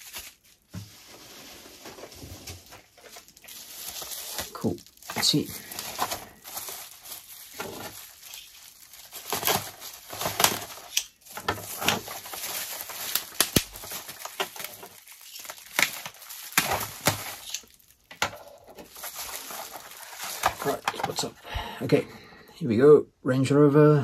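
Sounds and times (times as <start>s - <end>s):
packaging tearing: 0.0s - 21.3s
packaging rustling and crinkling: 0.0s - 21.4s.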